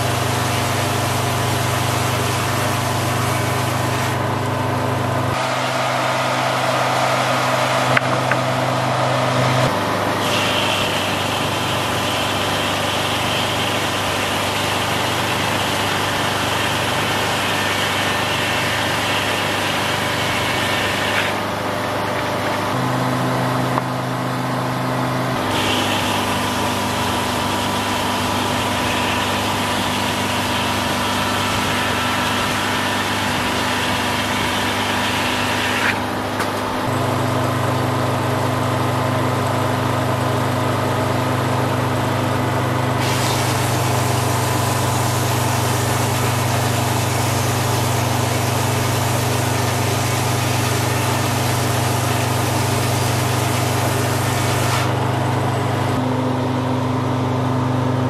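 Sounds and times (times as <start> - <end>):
circular saw blade whirring: 0.0 - 56.2
diesel engine hum: 0.0 - 58.0.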